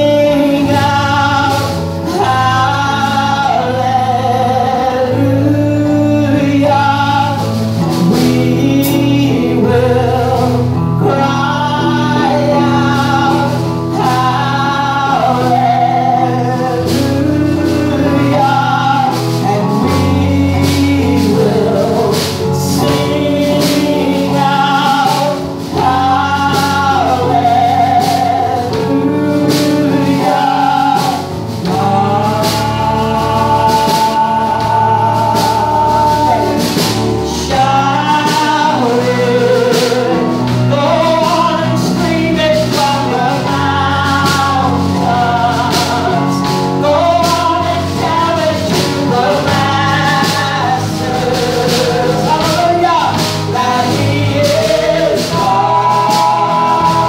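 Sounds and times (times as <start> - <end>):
guitar: 0.0 - 57.0
piano: 0.0 - 57.0
steady beat: 0.0 - 57.0
voices singing together: 0.0 - 57.0.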